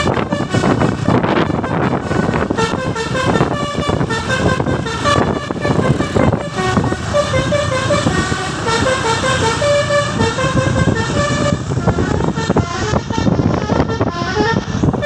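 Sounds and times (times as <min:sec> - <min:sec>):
musical vehicle horn tune: 0:00.0 - 0:15.0.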